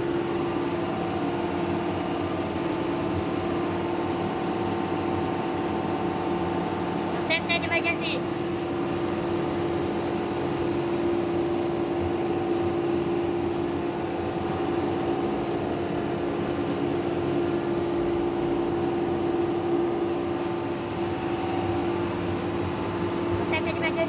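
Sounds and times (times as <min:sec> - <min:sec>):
generator humming: 0:00.0 - 0:24.0.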